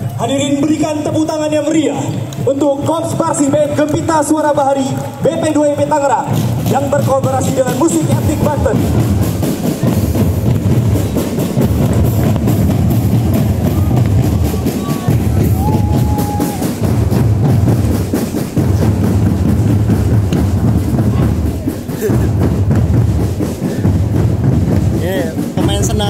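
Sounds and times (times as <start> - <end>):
heavy bass drums: 0.0 - 26.0
marching band drums: 0.0 - 26.0.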